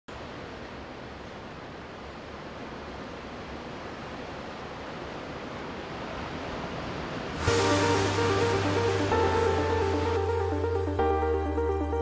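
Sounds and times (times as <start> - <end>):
steady rushing noise: 0.1 - 12.0.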